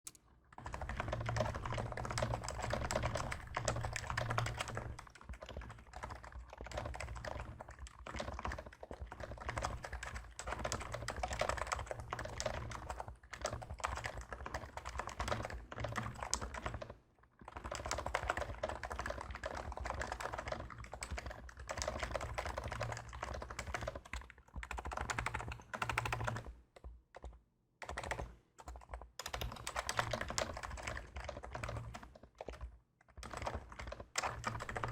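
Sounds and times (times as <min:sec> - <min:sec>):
fast keyboard typing: 0:00.5 - 0:34.9.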